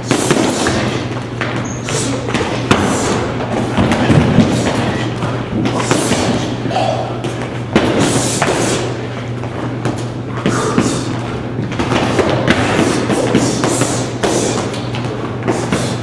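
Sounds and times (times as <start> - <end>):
punches thudding on heavy bags: 0.0 - 6.6, 7.2 - 8.8, 9.5 - 16.0.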